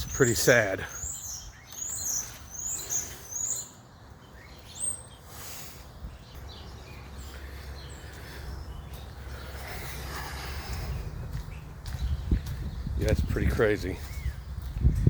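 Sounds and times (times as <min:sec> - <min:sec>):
small bird chirping: 0:00.0 - 0:13.4.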